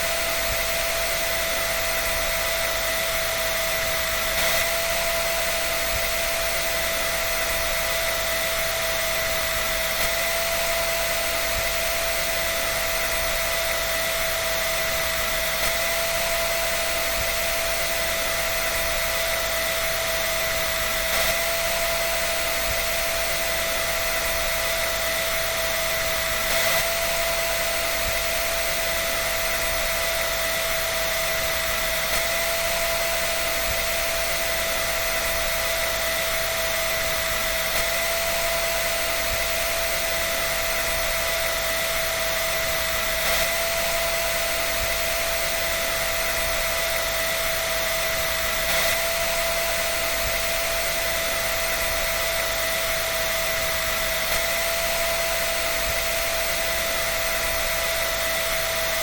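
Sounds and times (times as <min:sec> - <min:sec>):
clothes dryer running: 0:00.0 - 0:59.0.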